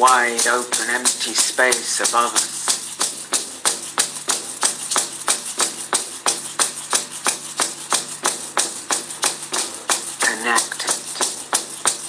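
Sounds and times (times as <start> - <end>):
drums struck in steady beat: 0.0 - 12.0.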